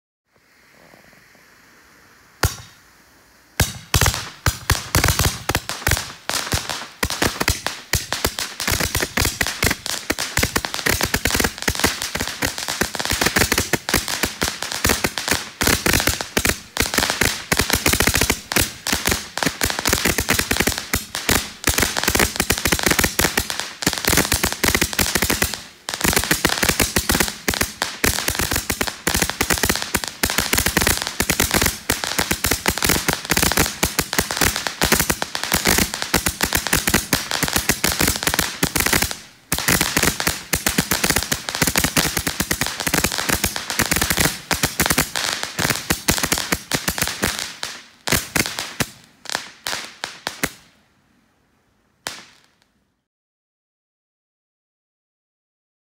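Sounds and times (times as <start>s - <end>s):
firework rapid pops and crackling: 2.4s - 2.8s, 3.6s - 50.8s, 52.1s - 52.7s.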